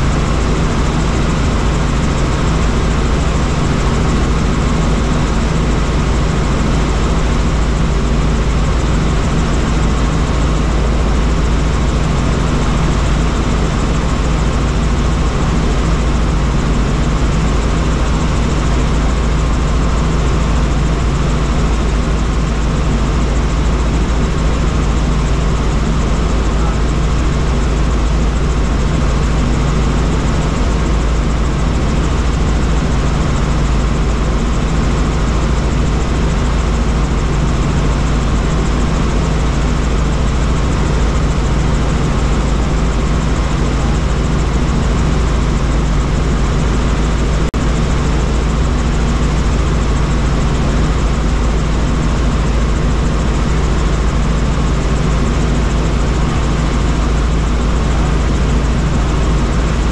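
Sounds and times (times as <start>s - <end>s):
helicopter drone: 0.0s - 59.9s.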